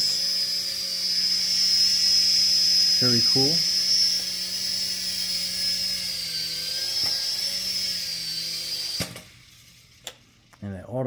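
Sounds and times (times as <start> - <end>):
toy helicopter motors whining: 0.0 - 11.0.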